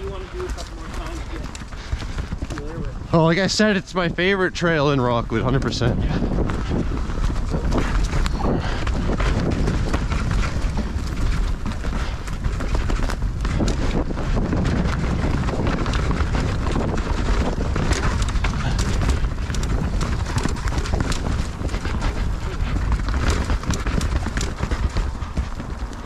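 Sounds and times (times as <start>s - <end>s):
tyres rumbling on dirt: 0.0s - 26.0s
bike chain and frame clattering: 4.9s - 26.0s.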